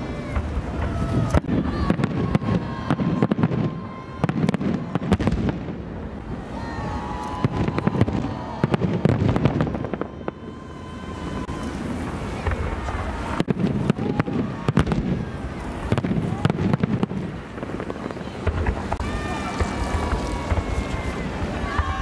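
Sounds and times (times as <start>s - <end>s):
continuous low rumble: 0.0s - 22.0s
fireworks bangs and crackles: 0.0s - 22.0s.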